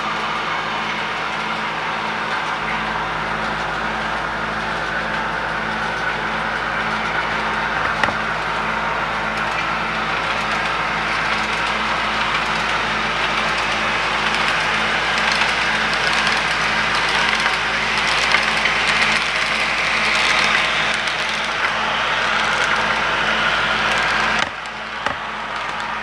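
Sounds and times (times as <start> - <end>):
model train running: 0.0 - 26.0.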